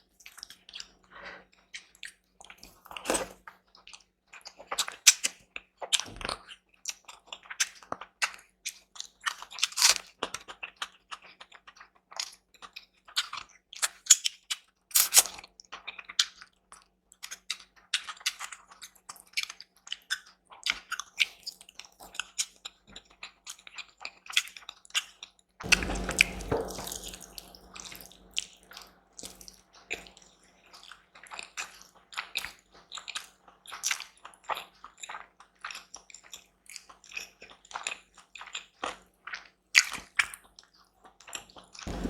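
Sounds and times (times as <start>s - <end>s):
chewing and crunching food: 0.0s - 25.3s, 30.8s - 41.9s.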